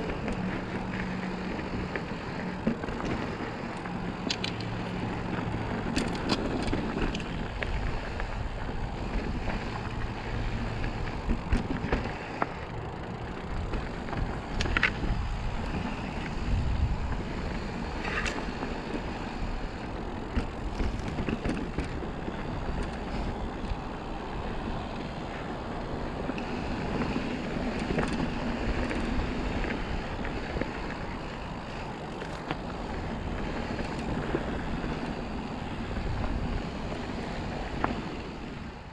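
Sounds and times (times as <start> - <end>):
bike rattling and clicking: 0.0 - 38.9
bike tyres on dirt trail: 0.0 - 38.9
wind buffeting microphone: 0.0 - 38.9.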